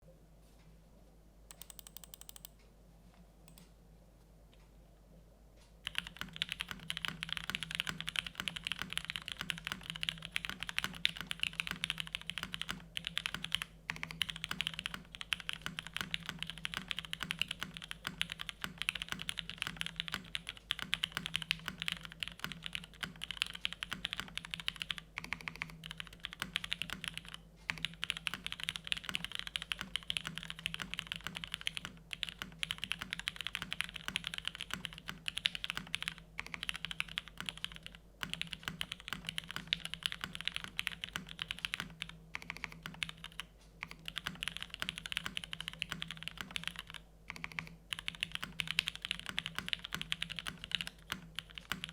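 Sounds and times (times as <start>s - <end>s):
fast typing on mechanical keyboard: 1.5s - 2.5s, 5.8s - 51.9s.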